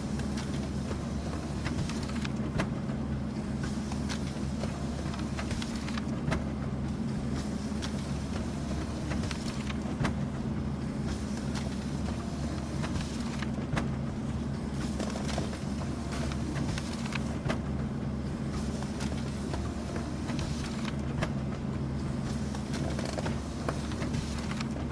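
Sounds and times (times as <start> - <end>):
paper feed clicks: 0.0 - 2.8, 3.6 - 6.6, 7.2 - 10.4, 11.1 - 13.9, 14.7 - 17.6, 18.5 - 24.9
printer humming: 0.0 - 24.9.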